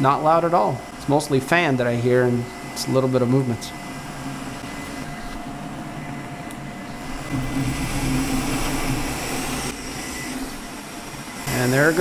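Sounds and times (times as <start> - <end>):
printer cooling fans whirring: 0.0 - 12.0.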